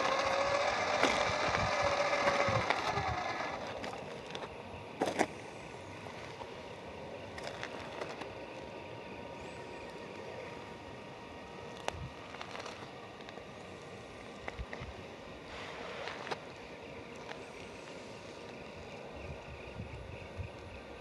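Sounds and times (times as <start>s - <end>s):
electric motor and gear whine: 0.0s - 21.0s.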